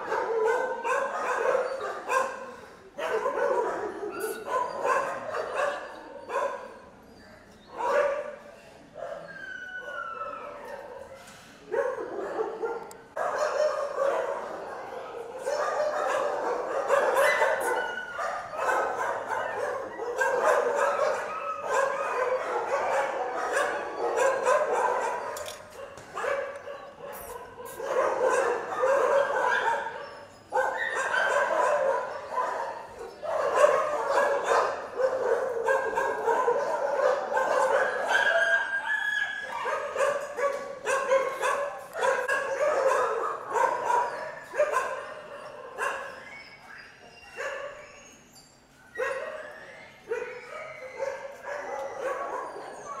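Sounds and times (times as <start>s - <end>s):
dogs barking and yelping: 0.0s - 53.0s.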